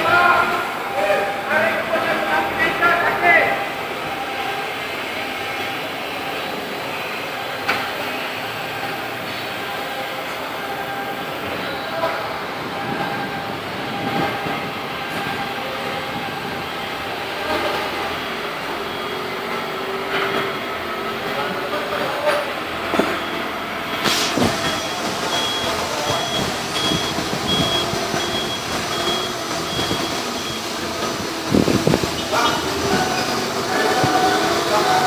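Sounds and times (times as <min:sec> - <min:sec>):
heavy machinery noise: 0:00.0 - 0:35.0
high warning beeps: 0:01.9 - 0:20.7, 0:22.8 - 0:33.5.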